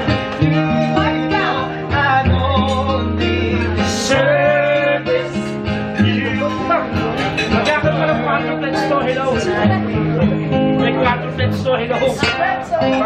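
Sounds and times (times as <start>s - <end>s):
acoustic guitar: 0.0s - 13.0s
voices singing: 0.0s - 13.0s.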